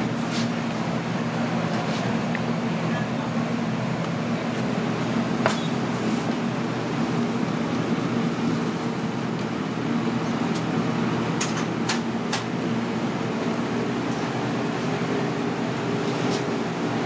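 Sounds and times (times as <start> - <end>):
machinery hum and rumble: 0.0 - 17.0.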